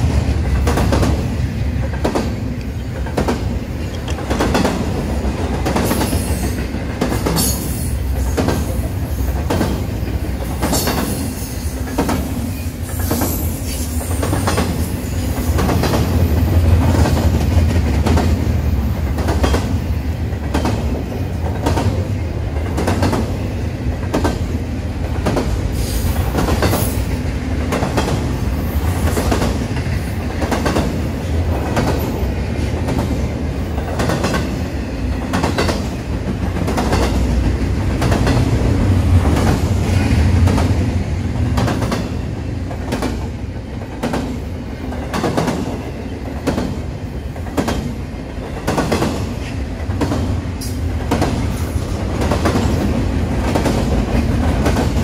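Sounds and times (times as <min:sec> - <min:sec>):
low rumble of railroad cars: 0:00.0 - 0:55.0
train wheels clicking over rail joints: 0:00.0 - 0:55.0.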